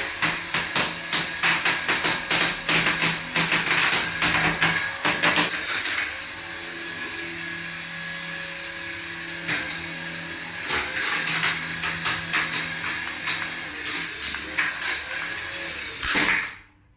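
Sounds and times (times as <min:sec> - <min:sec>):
small electric motor whirring: 0:00.0 - 0:16.6.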